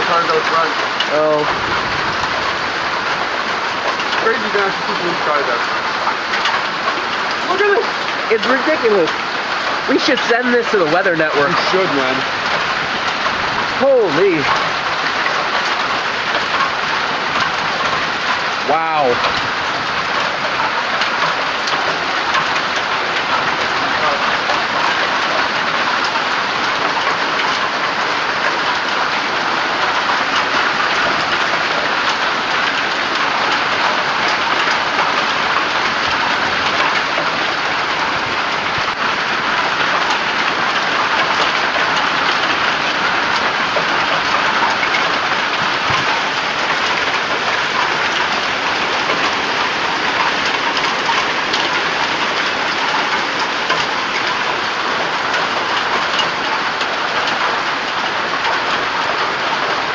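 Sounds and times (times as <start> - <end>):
hail and heavy rain pelting: 0.0 - 59.9.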